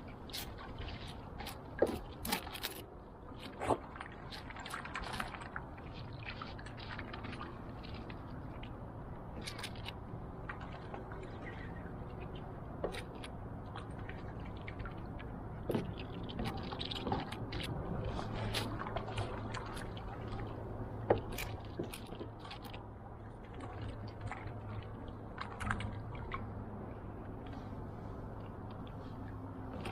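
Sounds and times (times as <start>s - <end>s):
swan dabbling and splashing: 0.0s - 29.9s.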